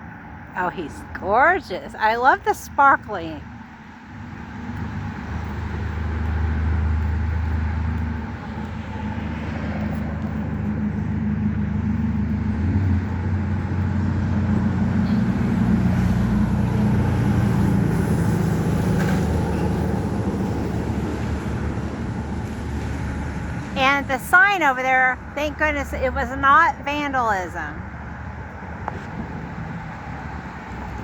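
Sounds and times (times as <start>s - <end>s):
road noise: 0.0s - 31.0s
vehicle engine humming: 0.0s - 31.0s.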